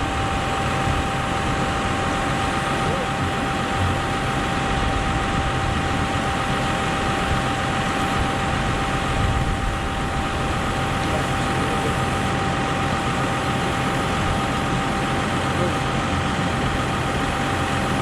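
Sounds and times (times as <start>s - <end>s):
steady high whine: 0.0s - 18.0s
tractor engine running: 0.0s - 18.0s.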